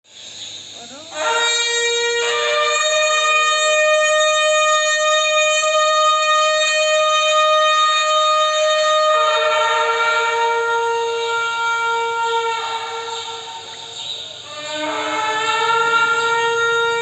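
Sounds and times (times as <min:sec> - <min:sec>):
horn blowing long blast: 0:01.1 - 0:17.0.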